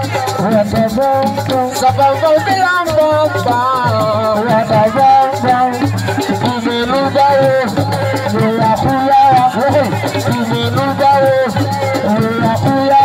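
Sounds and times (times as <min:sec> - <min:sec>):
high rattling shaker: 0:00.0 - 0:13.0
person singing: 0:00.0 - 0:13.0
steady percussion: 0:00.0 - 0:13.0.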